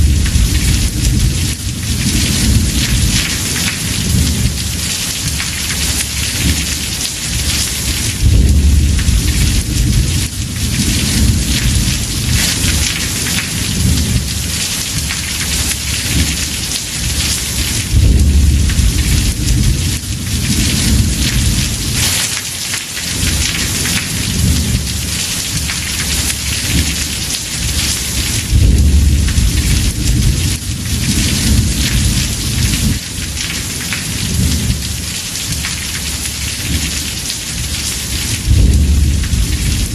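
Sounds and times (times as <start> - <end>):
rolling thunder: 0.0 - 22.2, 23.2 - 35.7, 37.5 - 39.9
heavy rain on a roof: 0.0 - 39.9.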